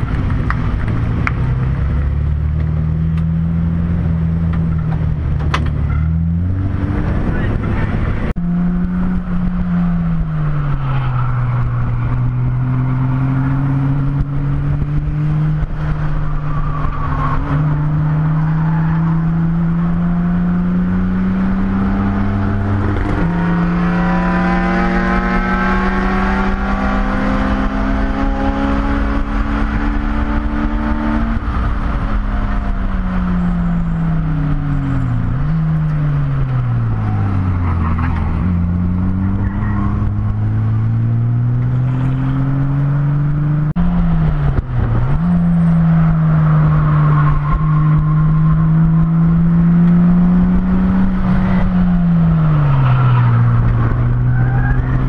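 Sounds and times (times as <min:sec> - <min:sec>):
race car engine from inside cabin: 0:00.0 - 0:55.0.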